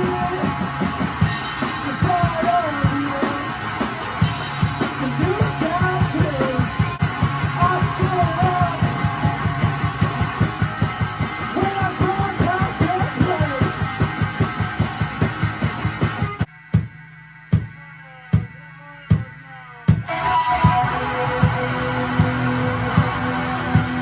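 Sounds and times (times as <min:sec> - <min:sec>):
fast drum beat: 0:00.0 - 0:17.7, 0:19.9 - 0:24.0
rock song: 0:00.0 - 0:17.8, 0:19.9 - 0:24.0.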